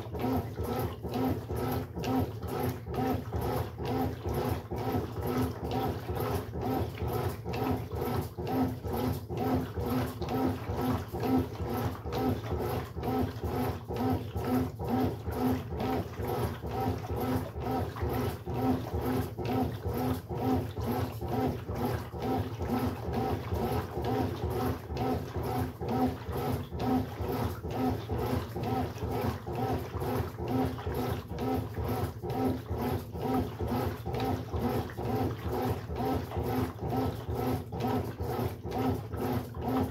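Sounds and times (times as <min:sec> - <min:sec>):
washing machine motor groaning: 0:00.0 - 0:39.9.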